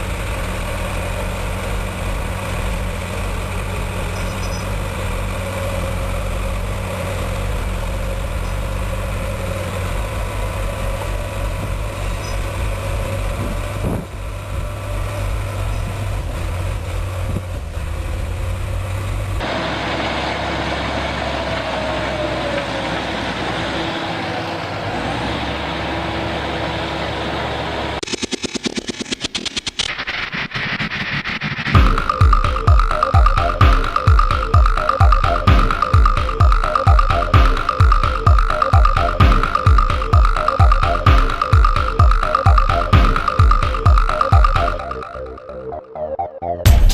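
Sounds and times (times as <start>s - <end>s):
engine whine: 0.0s - 46.9s
heavy machinery engine running: 0.0s - 46.9s.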